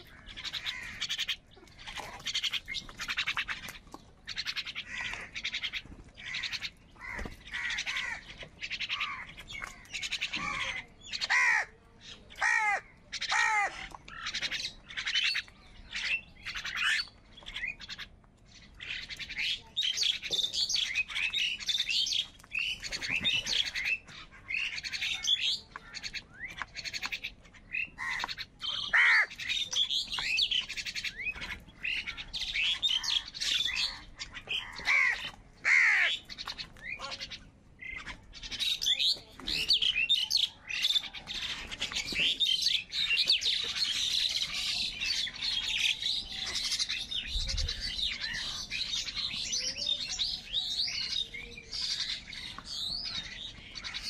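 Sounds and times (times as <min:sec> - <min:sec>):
crows calling harshly: 0:00.0 - 0:54.0.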